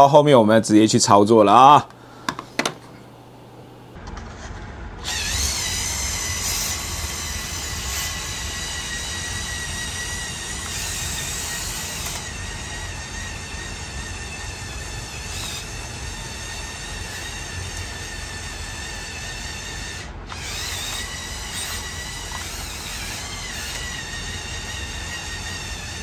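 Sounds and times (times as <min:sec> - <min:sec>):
toy truck electric motor whining: 0:05.0 - 0:26.0.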